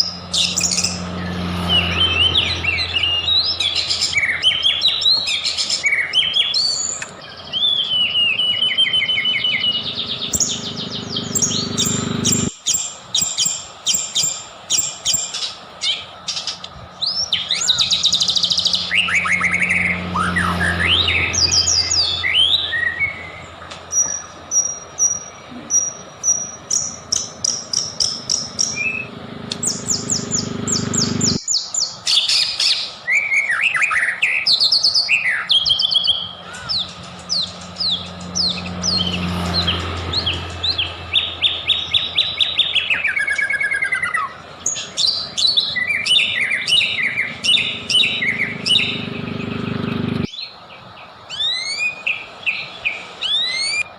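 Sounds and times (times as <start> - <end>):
bird singing fast varied song: 0.0 - 53.9.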